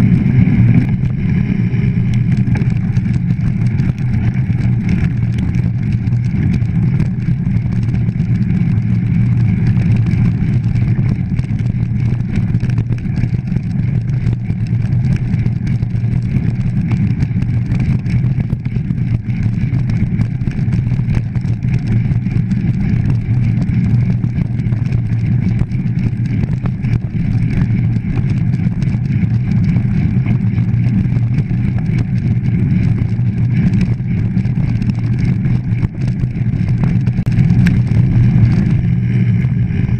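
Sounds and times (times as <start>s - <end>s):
bike tyres rolling over gravel: 0.0s - 39.9s
wind buffeting microphone: 0.0s - 39.9s.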